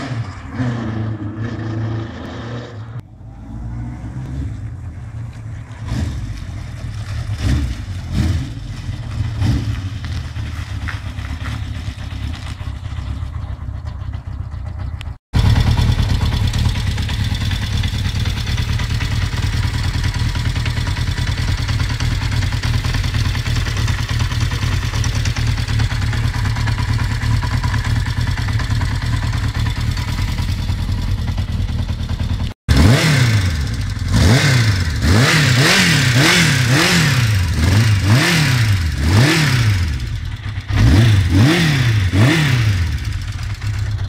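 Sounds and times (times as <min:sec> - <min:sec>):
motorcycle engine revving: 0:00.0 - 0:44.0
motorcycle engine idling: 0:04.6 - 0:44.0.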